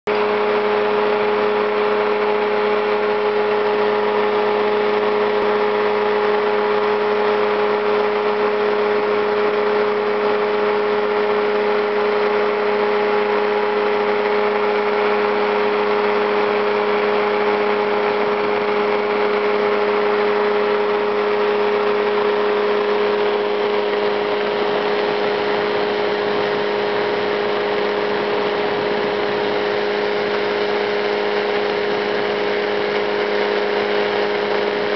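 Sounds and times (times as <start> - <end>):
engine and propeller drone: 0.1 - 34.9.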